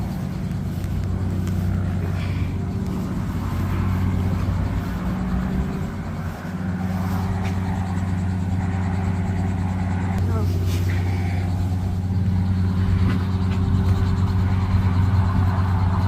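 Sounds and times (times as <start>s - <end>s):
car engine running at low speed: 0.0s - 16.0s.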